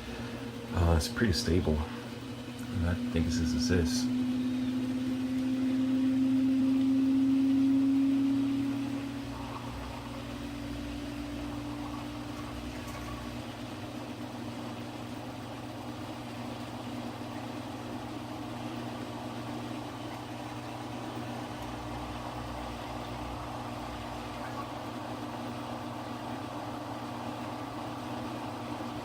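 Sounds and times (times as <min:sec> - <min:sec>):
washing machine motor and drum hum: 0:00.0 - 0:29.0.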